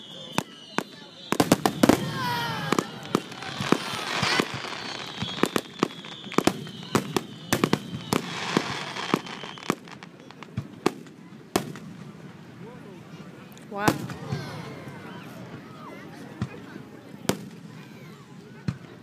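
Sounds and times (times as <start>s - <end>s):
fireworks bangs and crackles: 0.0s - 12.7s, 13.8s - 14.6s, 16.3s - 19.0s.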